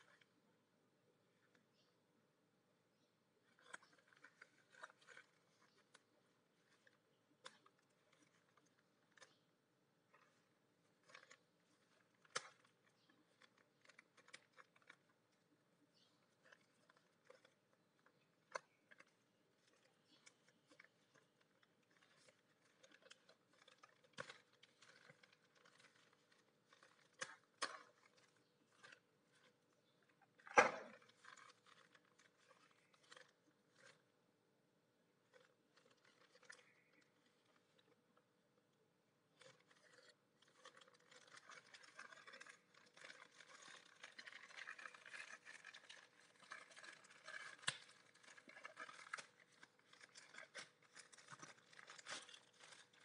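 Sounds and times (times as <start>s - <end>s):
plastic bag crinkling: 3.4s - 9.4s, 10.1s - 34.1s, 35.2s - 38.0s, 39.3s - 53.0s.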